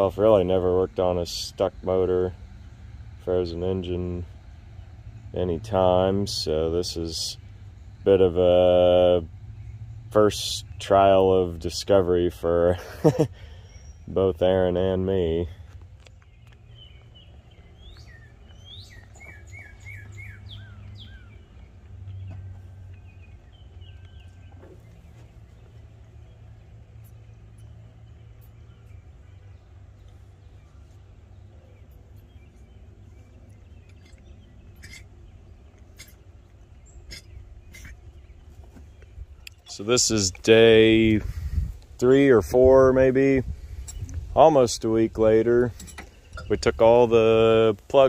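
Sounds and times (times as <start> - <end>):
faint low hum: 0.0 - 48.0
songbird chirping: 0.0 - 48.0.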